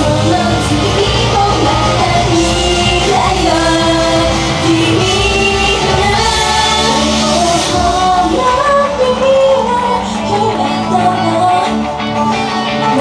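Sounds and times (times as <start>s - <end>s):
loud band backing: 0.0s - 13.0s
women singing pop-rock song: 0.0s - 13.0s.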